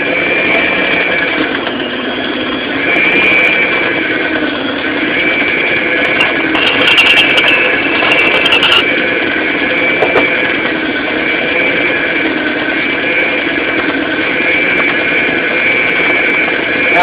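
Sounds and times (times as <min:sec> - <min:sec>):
stand mixer motor humming: 0:00.0 - 0:16.9.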